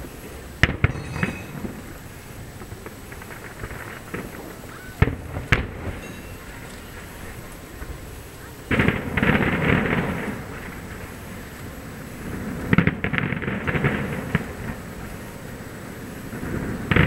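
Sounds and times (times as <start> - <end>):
distant fireworks bangs and crackling: 0.0 - 17.0.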